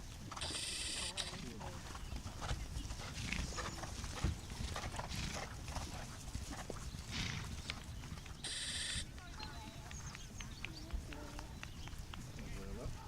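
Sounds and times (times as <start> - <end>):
horse hoofbeats: 0.0 - 13.0.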